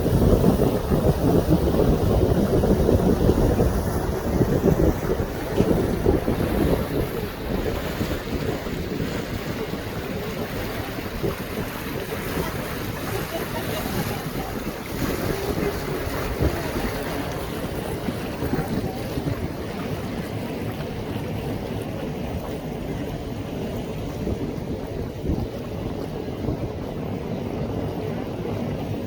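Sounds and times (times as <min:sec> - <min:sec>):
water rushing past boat: 0:00.0 - 0:29.0
wind buffeting microphone: 0:00.0 - 0:29.0.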